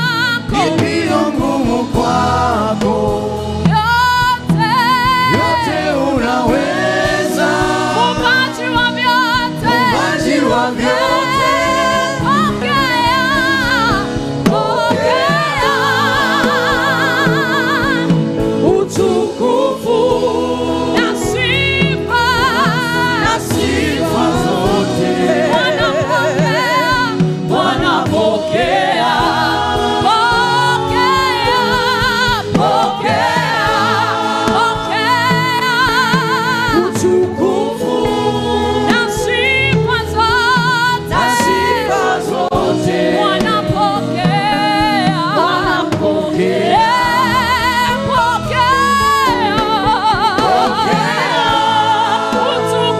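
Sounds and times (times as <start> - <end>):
musical backing: 0.0 - 52.9
voices singing worship song: 0.0 - 52.9.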